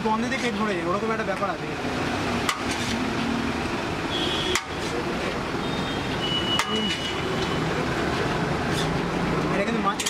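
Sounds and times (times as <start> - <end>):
traffic noise: 0.0 - 10.0.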